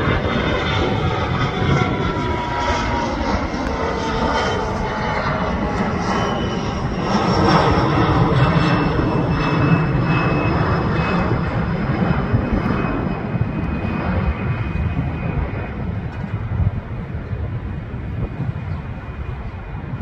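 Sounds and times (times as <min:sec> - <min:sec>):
high engine whine: 0:00.0 - 0:20.0
jet engine roar: 0:00.0 - 0:20.0.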